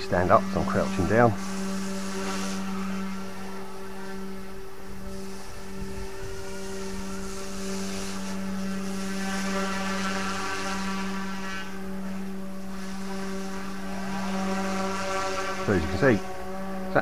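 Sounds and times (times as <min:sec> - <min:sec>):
rc helicopter hovering: 0:00.0 - 0:17.0.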